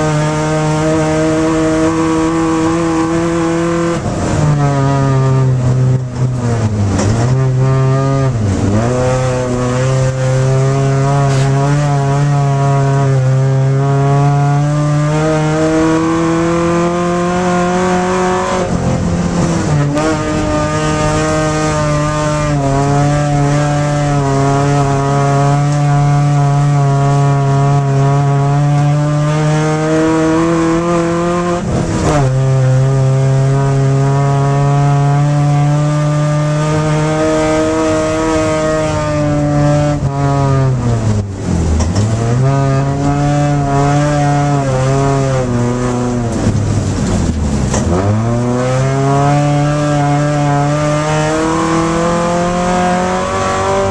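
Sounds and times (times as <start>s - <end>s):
car engine at high revs: 0.0s - 53.9s.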